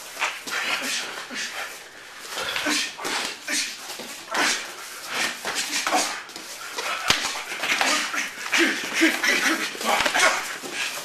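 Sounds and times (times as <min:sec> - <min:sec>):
scuffling: 0:00.0 - 0:11.0.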